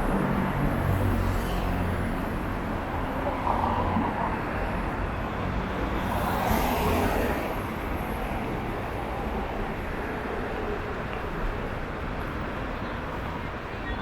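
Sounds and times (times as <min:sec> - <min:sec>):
cars passing on busy street: 0:00.0 - 0:14.0.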